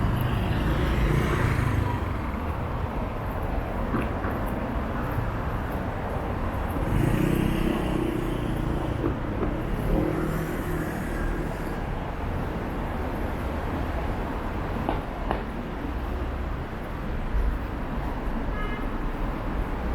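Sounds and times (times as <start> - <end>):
road noise rumble: 0.0 - 19.9.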